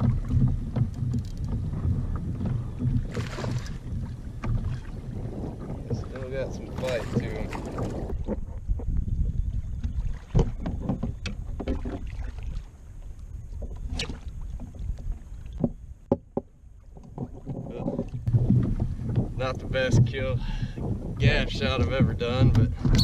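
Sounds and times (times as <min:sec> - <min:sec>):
sharp knocks and splashes: 0:00.0 - 0:09.0, 0:09.8 - 0:23.0
wind buffeting microphone: 0:00.0 - 0:16.1, 0:16.9 - 0:23.0
water sloshing against kayak hull: 0:00.0 - 0:23.0.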